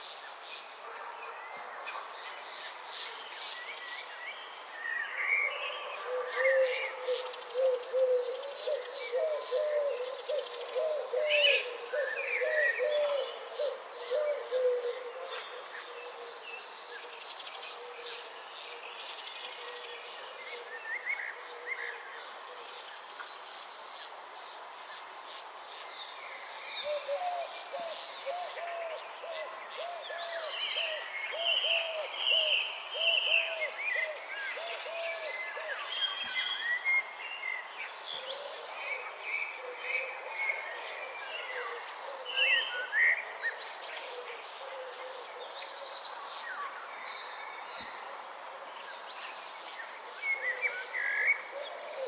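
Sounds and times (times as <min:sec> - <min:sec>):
high insect trill: 0:02.2 - 0:52.0.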